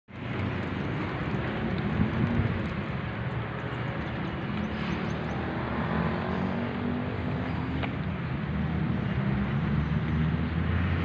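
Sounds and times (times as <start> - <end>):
road traffic rumble: 0.1 - 11.0.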